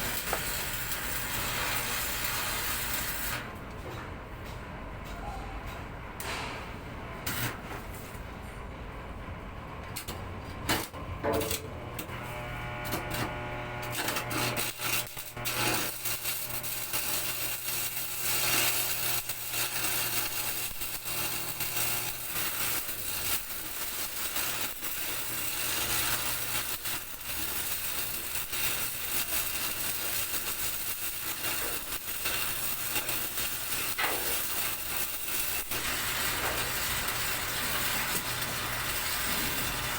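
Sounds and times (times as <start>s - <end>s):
welding arc crackling hiss: 0.0s - 3.5s, 10.7s - 39.9s
low electrical hum: 0.0s - 39.9s.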